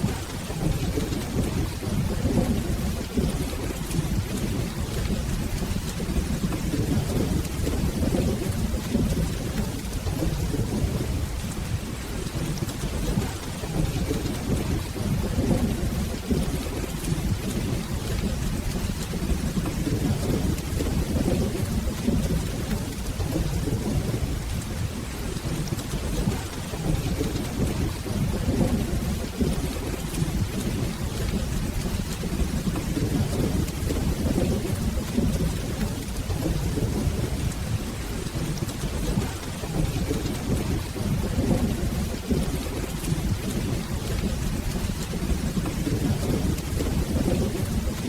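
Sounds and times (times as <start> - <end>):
rain falling: 0.0 - 48.0
rolling thunder: 0.0 - 48.0.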